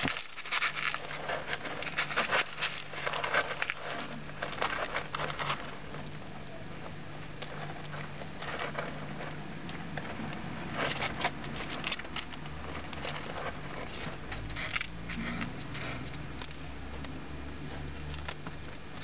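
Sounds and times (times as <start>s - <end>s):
paws shuffling on paper: 0.0s - 16.6s
faint steady hum: 0.0s - 19.0s
kittens chewing: 0.0s - 19.0s.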